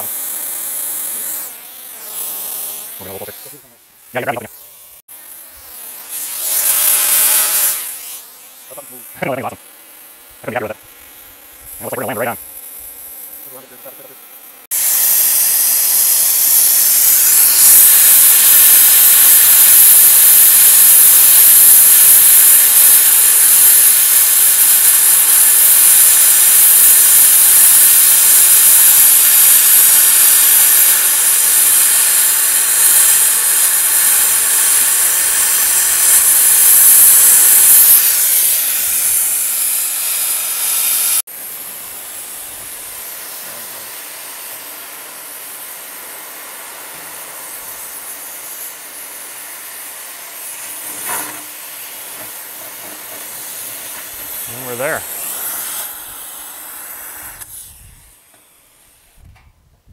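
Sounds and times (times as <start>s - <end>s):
cutting torch hissing: 0.0s - 59.2s.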